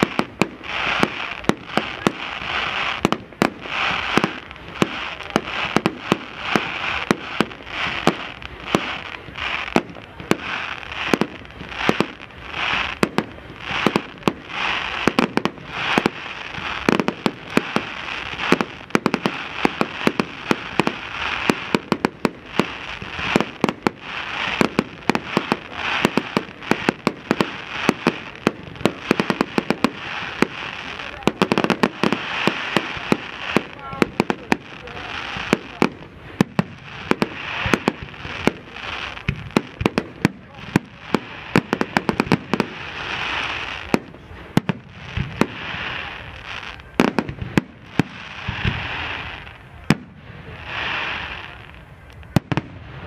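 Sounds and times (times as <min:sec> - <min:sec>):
firework crackling hiss: 0:00.0 - 0:53.0.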